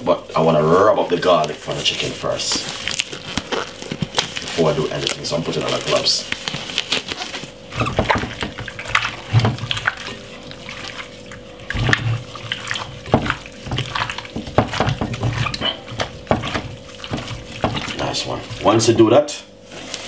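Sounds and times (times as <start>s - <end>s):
steady low hum: 0.0s - 20.0s
wet squelching and slapping: 1.2s - 18.9s.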